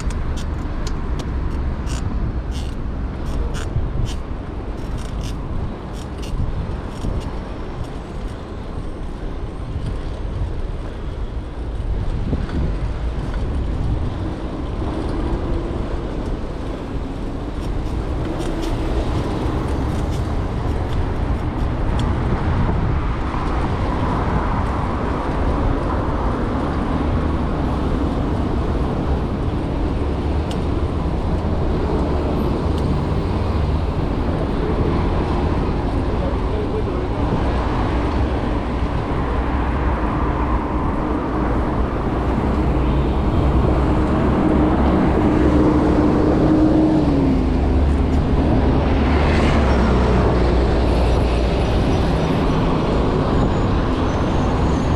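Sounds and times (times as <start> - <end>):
cars passing: 0.0 - 54.9.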